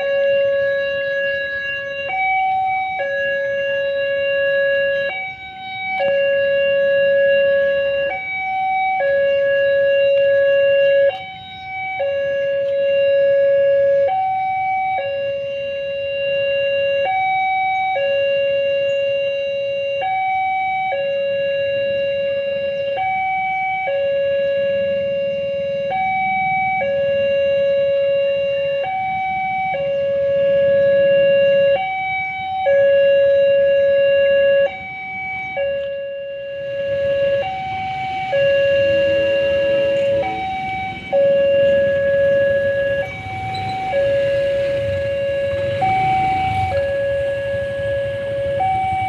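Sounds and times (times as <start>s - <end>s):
level crossing two-tone alarm: 0.0s - 49.0s.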